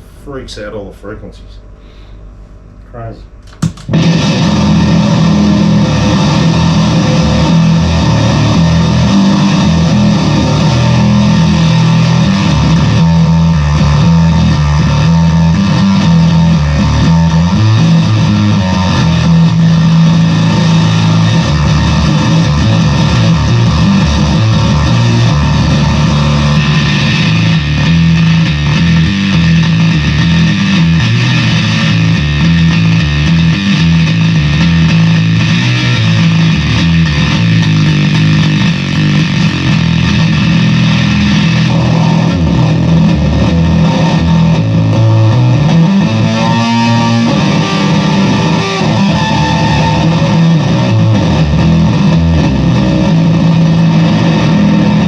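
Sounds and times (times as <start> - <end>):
distorted bass guitar: 0.0 - 55.0.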